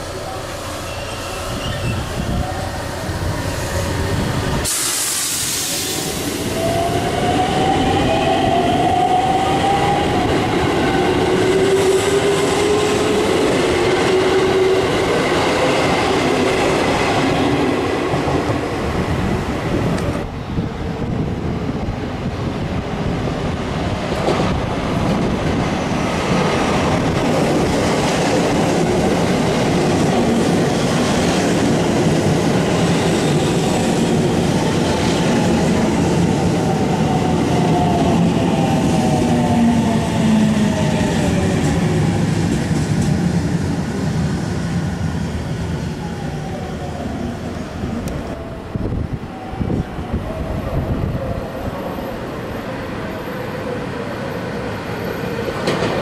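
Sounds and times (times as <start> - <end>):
electric train rumbling on rails: 0.0 - 56.0.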